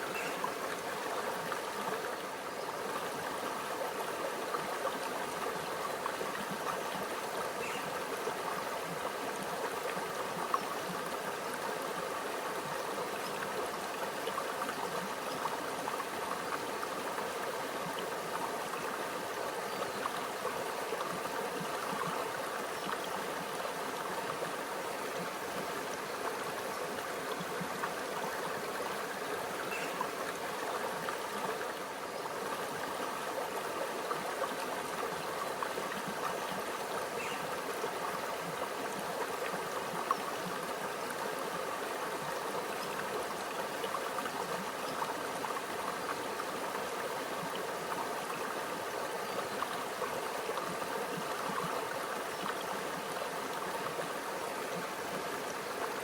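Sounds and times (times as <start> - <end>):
stream gurgling over rocks: 0.0 - 56.0.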